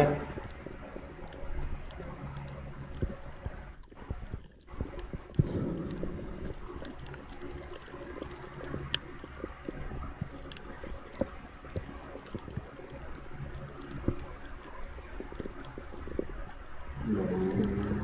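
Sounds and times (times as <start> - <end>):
clicks and pops: 0.0 - 18.0
low underwater rumble: 0.0 - 18.0.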